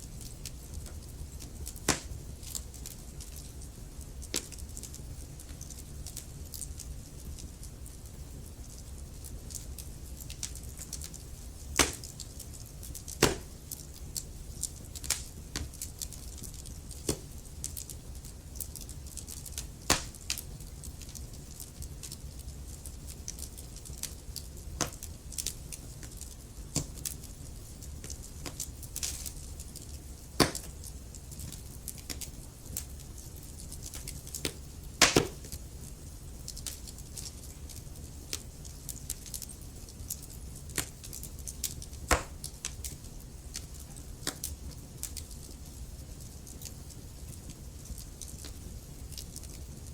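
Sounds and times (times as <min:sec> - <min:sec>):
logs crackling in fireplace: 0:00.0 - 0:49.9
low fire rumble: 0:00.0 - 0:49.9.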